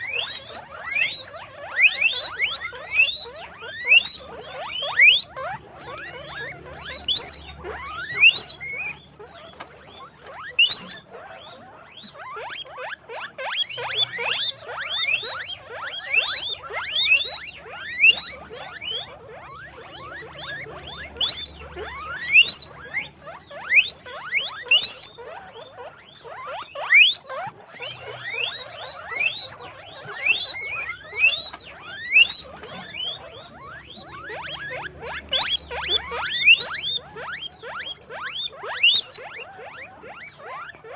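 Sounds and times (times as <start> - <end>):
guinea pigs squeaking: 0.0 - 40.9.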